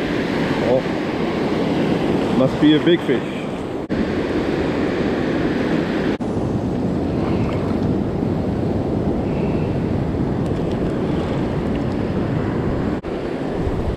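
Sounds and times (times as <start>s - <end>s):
ocean surf washing up beach: 0.0s - 13.9s
wind buffeting microphone: 0.0s - 13.9s.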